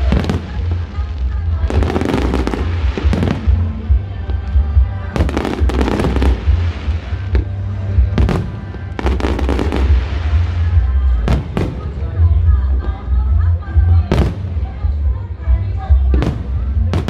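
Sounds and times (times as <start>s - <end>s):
fireworks bangs and crackles: 0.0s - 12.2s, 14.0s - 15.0s, 16.0s - 17.0s
loud music with heavy bass: 0.0s - 17.0s.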